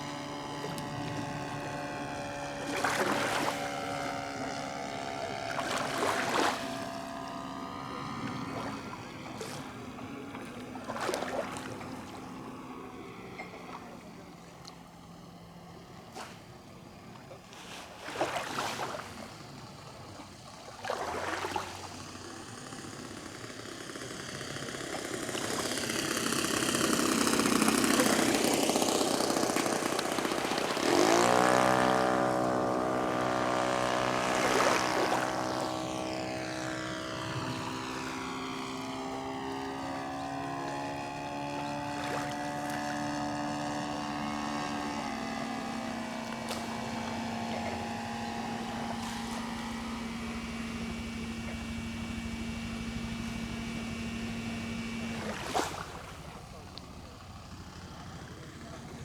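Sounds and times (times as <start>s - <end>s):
model plane engine and propeller: 0.0s - 59.0s.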